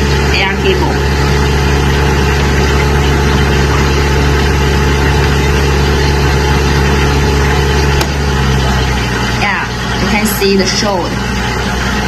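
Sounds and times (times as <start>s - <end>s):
air-moving equipment humming: 0.0s - 12.0s.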